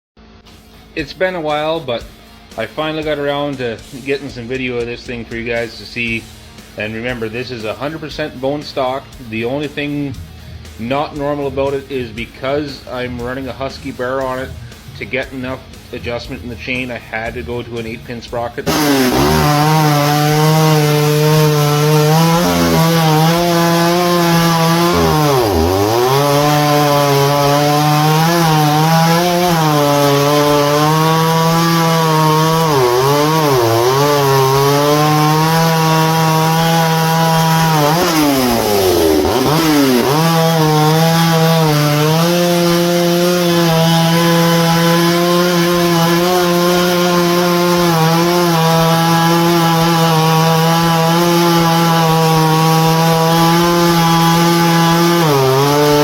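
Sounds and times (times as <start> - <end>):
chainsaw cutting wood: 5.4 - 56.0.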